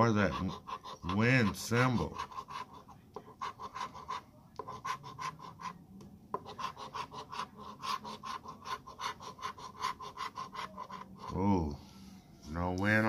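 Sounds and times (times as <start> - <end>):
coin scratching lottery ticket: 0.0 - 5.8, 6.4 - 11.4.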